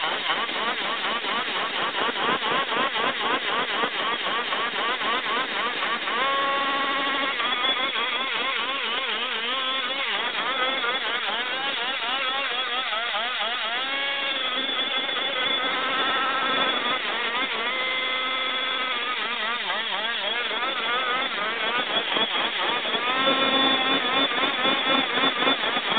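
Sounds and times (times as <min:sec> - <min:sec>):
tire spinning on asphalt: 0:00.0 - 0:25.9
two-stroke scooter engine revving: 0:00.0 - 0:25.9.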